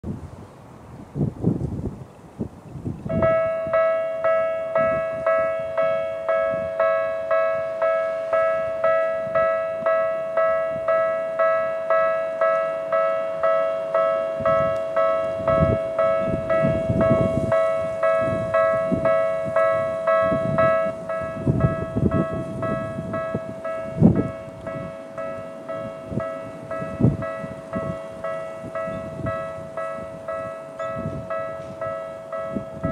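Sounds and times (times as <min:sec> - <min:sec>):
low wind rumble on microphone: 0:00.0 - 0:32.9
level crossing warning bell: 0:03.1 - 0:32.9.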